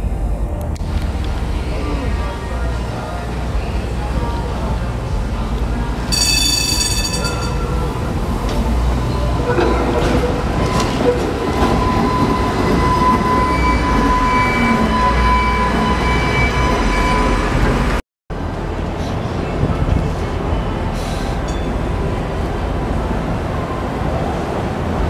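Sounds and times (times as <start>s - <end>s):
streetcar rumble and whine: 0.0s - 25.0s.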